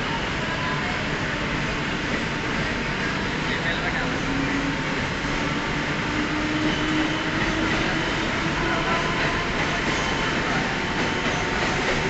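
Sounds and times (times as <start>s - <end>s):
electric train running rumble: 0.0s - 12.0s.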